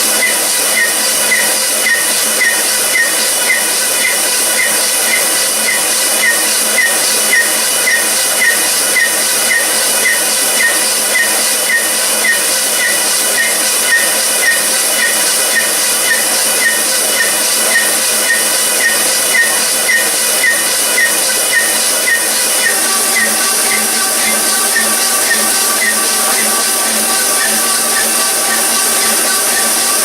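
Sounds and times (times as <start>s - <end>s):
machine hissing: 0.0s - 30.0s.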